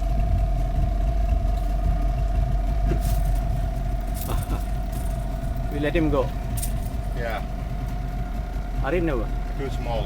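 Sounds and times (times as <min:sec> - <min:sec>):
outboard engine idling: 0:00.0 - 0:10.0.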